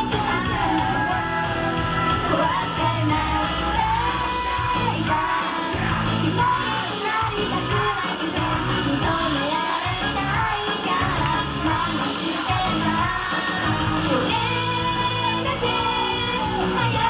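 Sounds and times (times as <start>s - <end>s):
band instrumental backing: 0.0s - 17.0s
person singing and shouting: 0.0s - 17.0s.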